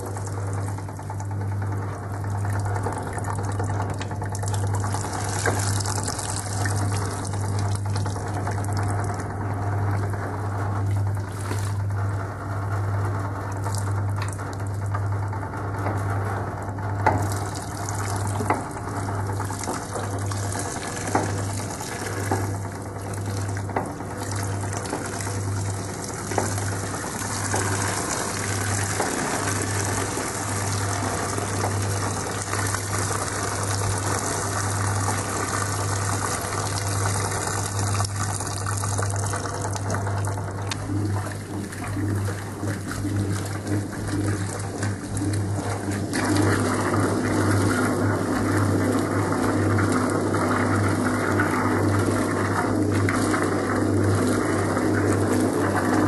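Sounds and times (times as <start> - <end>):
water splashing into tub: 0.0 - 12.2, 17.0 - 56.0
low electric motor hum: 0.0 - 56.0
washing machine agitator churning: 0.0 - 56.0.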